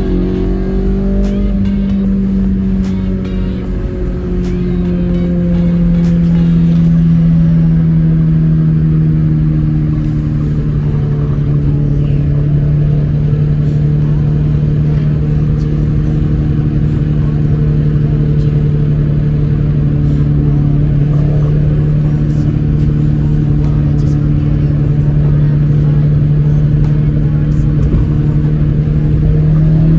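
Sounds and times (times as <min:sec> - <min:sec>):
car engine exhaust drone: 0:00.0 - 0:29.9.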